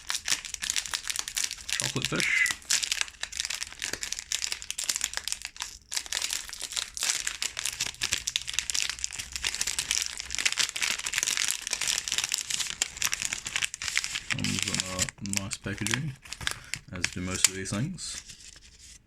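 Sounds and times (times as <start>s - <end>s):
snack wrapper crinkling: 0.0s - 18.8s.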